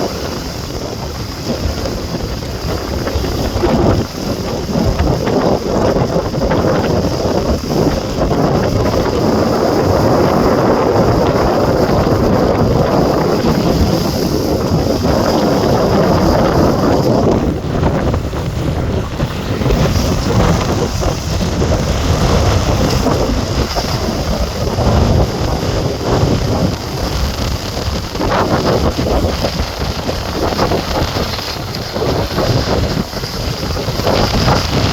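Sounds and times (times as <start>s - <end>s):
water rushing and splashing: 0.0s - 34.9s
wind buffeting microphone: 0.0s - 34.9s.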